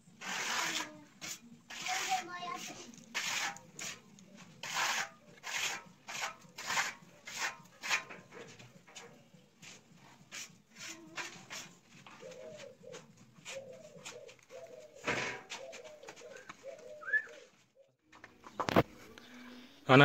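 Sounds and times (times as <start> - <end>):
tape rasping over plaster: 0.1 - 16.4.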